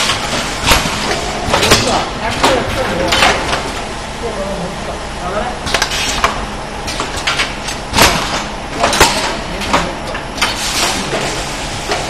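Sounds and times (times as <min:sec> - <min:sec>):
packaging machine clacks: 0:00.0 - 0:03.7, 0:05.7 - 0:12.0
steady machine background noise: 0:00.0 - 0:12.0.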